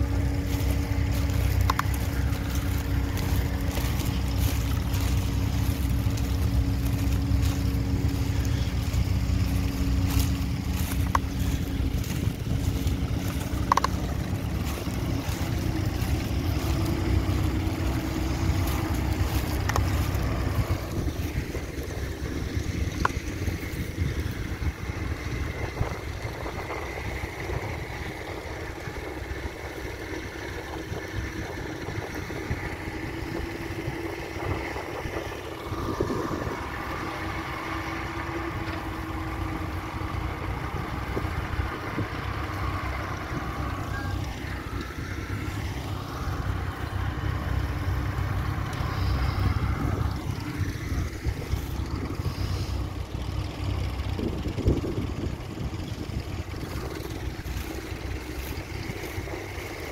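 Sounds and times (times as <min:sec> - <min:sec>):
tractor engine running: 0:00.0 - 0:59.9
wind noise on microphone: 0:00.0 - 0:59.9.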